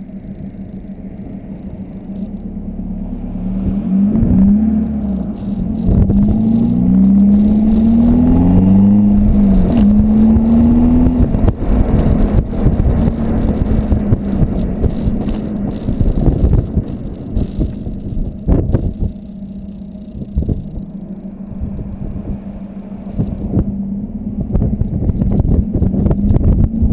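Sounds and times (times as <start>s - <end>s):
car exhaust note: 0.0s - 26.9s
exhaust flapping noise: 0.0s - 26.9s.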